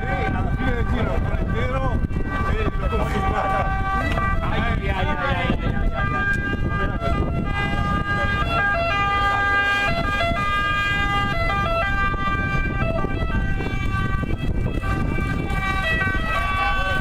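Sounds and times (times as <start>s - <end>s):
ambulance two-tone siren: 0.0s - 17.0s.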